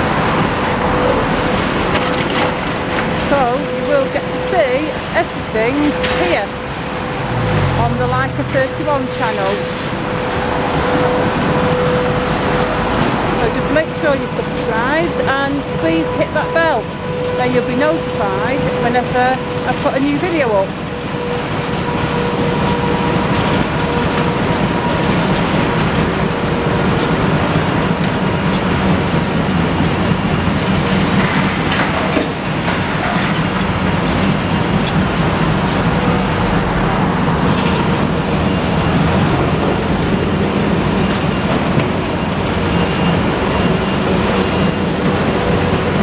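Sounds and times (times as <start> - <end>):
excavator engine rumble: 0.0 - 46.0.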